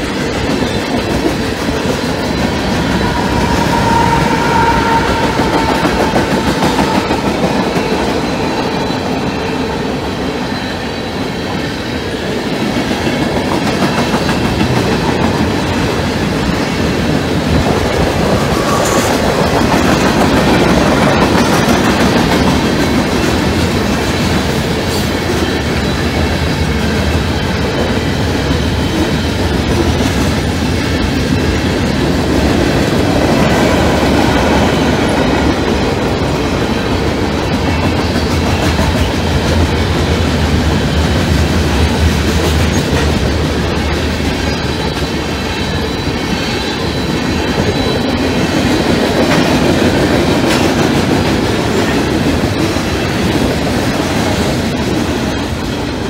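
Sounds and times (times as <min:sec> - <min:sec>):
freight train rumbling past: 0:00.0 - 0:56.0
wheels clickety-clack on rail joints: 0:00.0 - 0:56.0.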